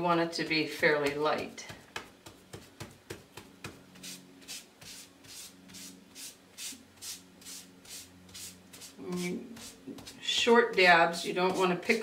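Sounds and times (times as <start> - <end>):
paper towel rubbing strokes: 1.0 - 12.0.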